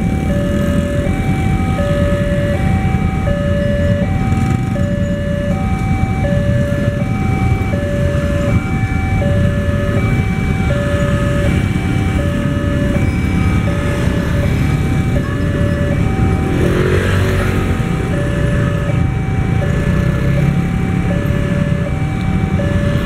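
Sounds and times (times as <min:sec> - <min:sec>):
passing motorcycle engines rumbling: 0:00.0 - 0:23.0.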